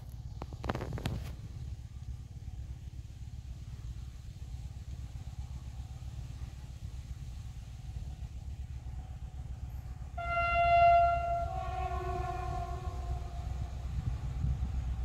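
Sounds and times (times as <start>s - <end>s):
distant train engine rumble: 0.0s - 15.0s.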